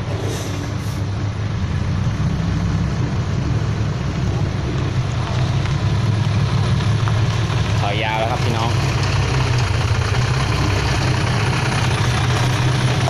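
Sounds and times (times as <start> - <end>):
diesel truck engine reversing: 0.0 - 13.0.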